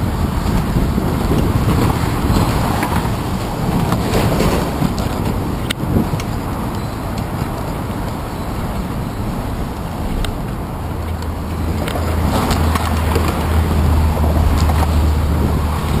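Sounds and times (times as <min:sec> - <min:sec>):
bicycle clicks and rattles: 0:00.0 - 0:09.2, 0:09.8 - 0:16.0
road traffic rumble: 0:00.0 - 0:16.0
wind: 0:00.0 - 0:16.0.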